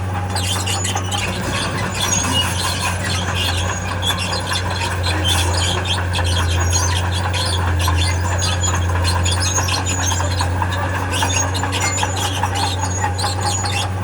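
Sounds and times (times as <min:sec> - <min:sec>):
diesel engine running: 0:00.0 - 0:14.0
steel crawler tracks squealing: 0:00.0 - 0:14.0.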